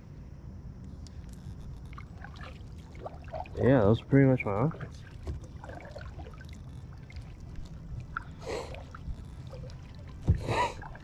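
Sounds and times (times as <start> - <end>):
low steady rumble: 0.0 - 11.0
water trickling and splashing: 1.8 - 11.0.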